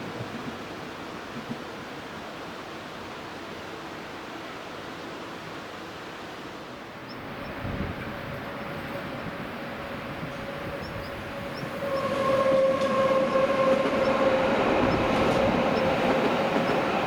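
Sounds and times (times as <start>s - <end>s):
train approaching: 0.0s - 17.0s.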